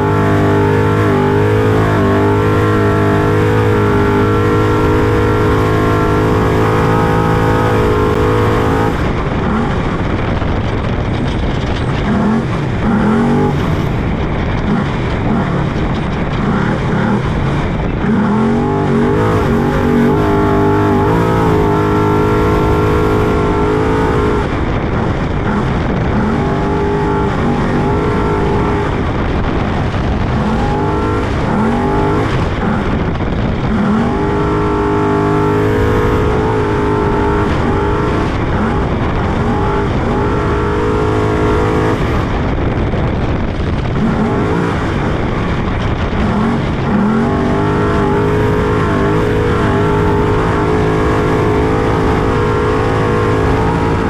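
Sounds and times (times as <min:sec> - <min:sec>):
truck engine revving: 0:00.0 - 0:54.0
truck rumbling over ground: 0:00.0 - 0:54.0.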